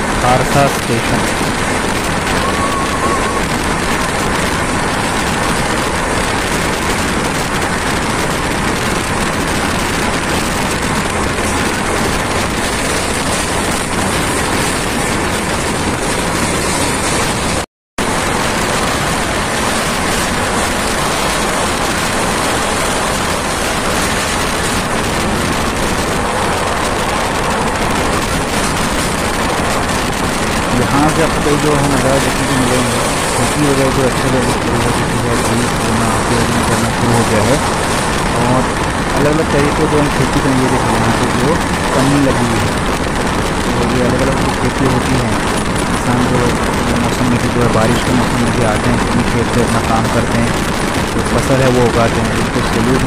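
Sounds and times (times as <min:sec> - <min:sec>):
wind rushing from moving train: 0:00.0 - 0:53.0.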